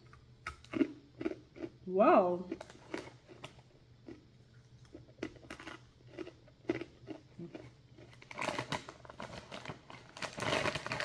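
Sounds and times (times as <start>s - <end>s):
crunching of crispy pretzel: 0.0s - 1.8s, 2.5s - 11.0s.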